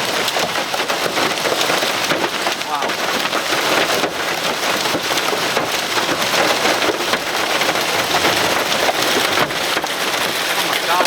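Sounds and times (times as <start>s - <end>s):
heavy rain pelting down: 0.0s - 11.0s.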